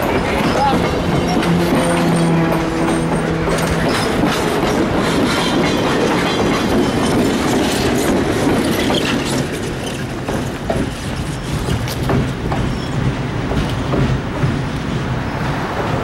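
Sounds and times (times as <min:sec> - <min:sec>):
train wheels clattering over joints: 0:00.0 - 0:16.0.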